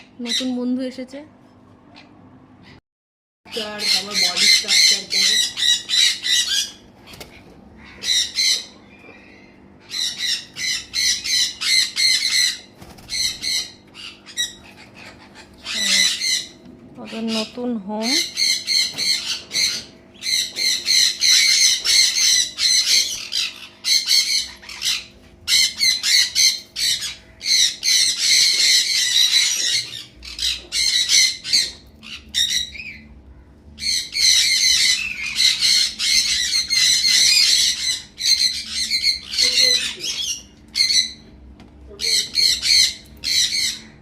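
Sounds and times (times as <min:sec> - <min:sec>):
parrots squawking: 0:03.5 - 0:44.0.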